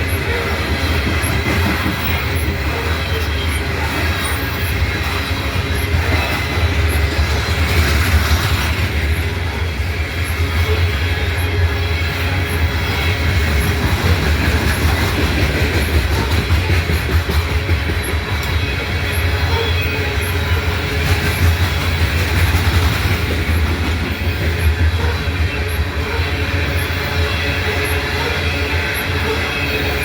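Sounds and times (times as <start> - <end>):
freight train rolling on rails: 0.0 - 30.0
train wheel clatter: 0.0 - 30.0.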